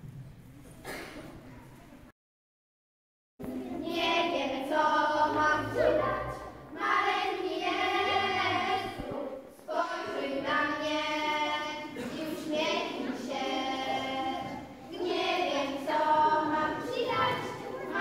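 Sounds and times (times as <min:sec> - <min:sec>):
girls singing together: 0:03.5 - 0:18.0.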